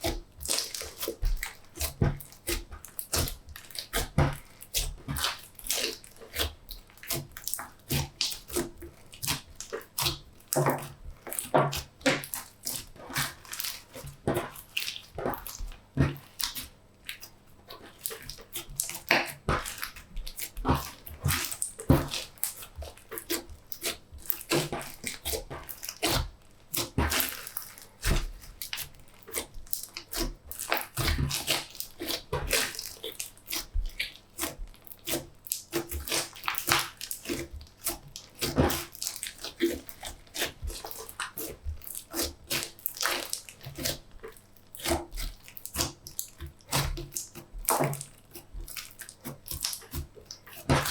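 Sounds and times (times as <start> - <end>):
slime squished by hand: 0.0 - 50.9.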